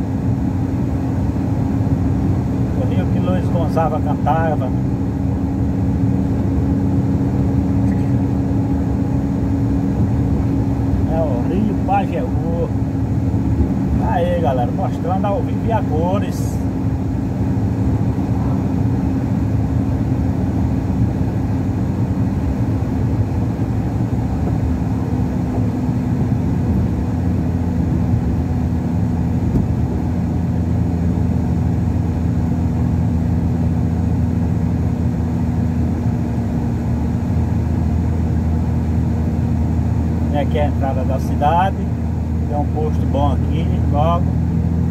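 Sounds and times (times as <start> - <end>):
diesel truck engine droning: 0.0 - 44.9
road noise: 0.0 - 44.9.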